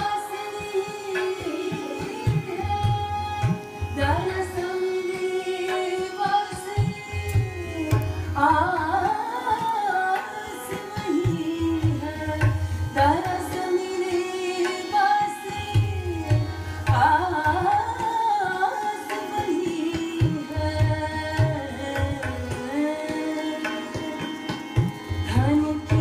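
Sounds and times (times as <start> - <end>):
woman singing devotional song: 0.0 - 26.0.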